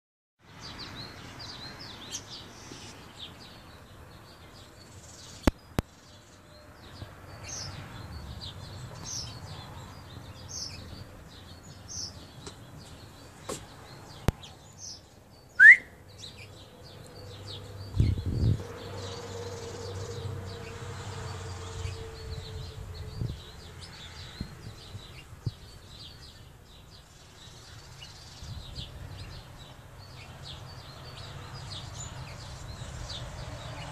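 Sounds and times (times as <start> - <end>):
birds chirping: 0.6 - 33.9.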